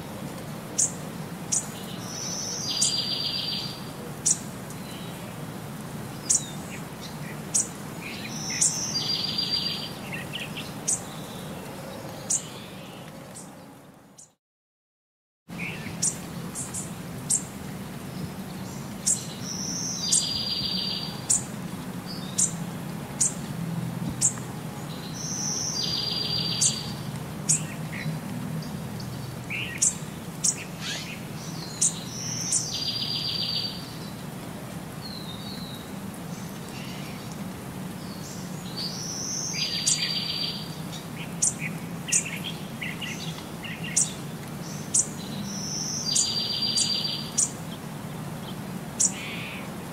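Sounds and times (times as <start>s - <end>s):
small songbird chirping: 0.8s - 5.2s, 6.1s - 13.5s, 15.6s - 21.5s, 22.1s - 22.6s, 23.2s - 23.4s, 24.1s - 34.2s, 38.0s - 49.7s.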